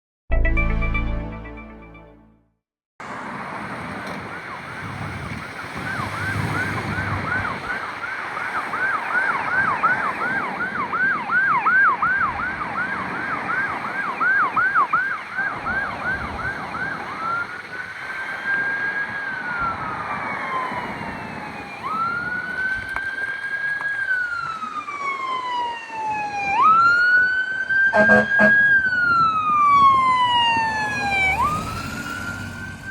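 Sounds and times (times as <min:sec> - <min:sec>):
fire truck siren: 0:03.0 - 0:32.9.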